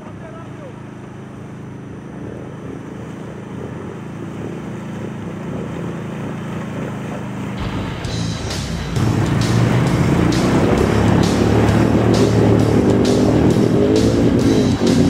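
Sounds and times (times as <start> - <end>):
quad bike engine running: 0.0 - 15.0
vehicle wading through river: 0.0 - 15.0.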